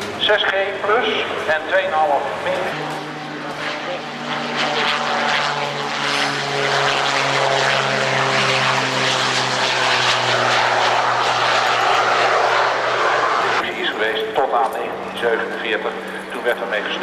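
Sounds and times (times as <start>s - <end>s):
propeller aircraft engine drone: 0.0s - 17.0s.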